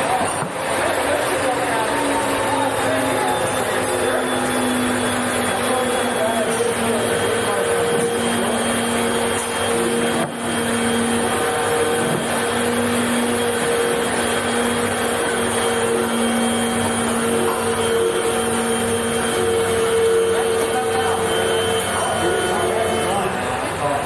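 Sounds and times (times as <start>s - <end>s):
workshop machinery and ventilation: 0.0s - 24.0s
pitched hums: 0.1s - 23.6s.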